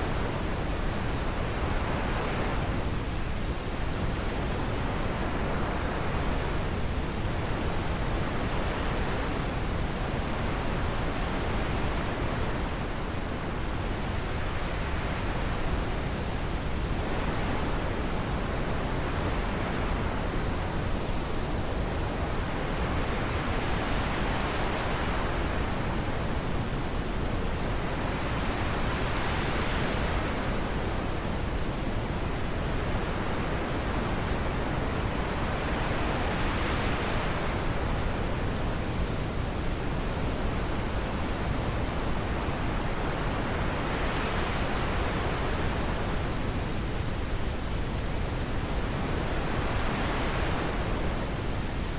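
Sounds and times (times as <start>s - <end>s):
wind blowing in gusts: 0.0s - 51.9s.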